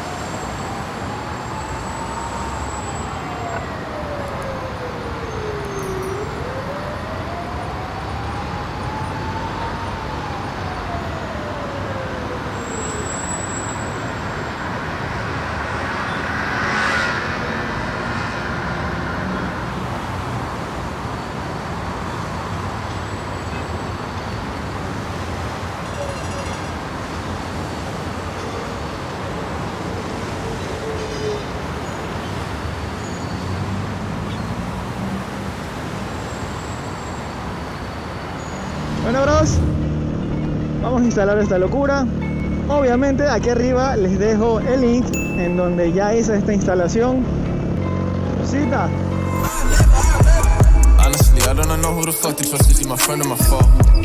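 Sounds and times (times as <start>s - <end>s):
wind and road rush: 0.0s - 54.0s.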